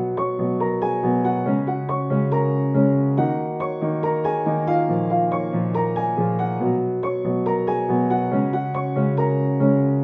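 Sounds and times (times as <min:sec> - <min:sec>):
background piano music: 0:00.0 - 0:10.0.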